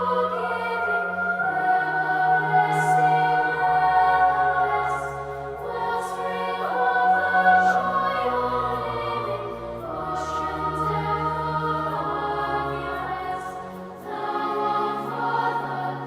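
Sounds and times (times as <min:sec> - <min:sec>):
choir singing slow chords: 0:00.0 - 0:16.0.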